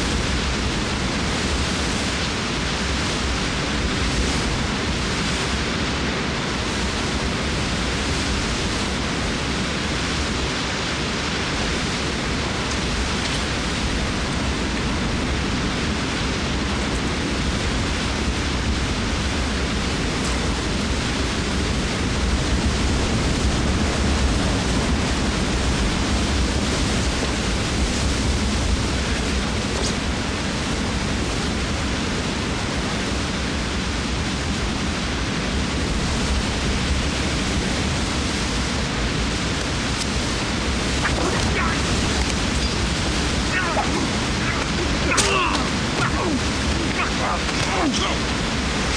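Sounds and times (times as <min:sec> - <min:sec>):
rushing river and waterfall: 0:00.0 - 0:48.9.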